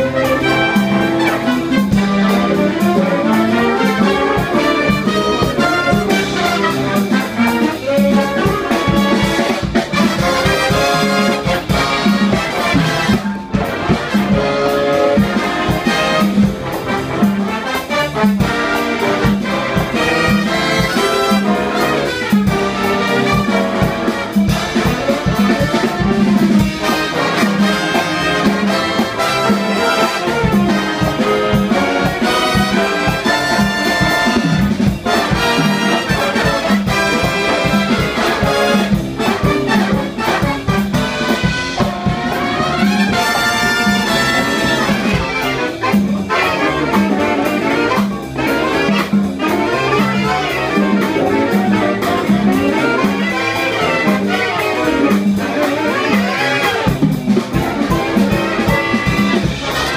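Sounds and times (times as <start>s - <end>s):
big band jazz playing: 0.0s - 59.9s.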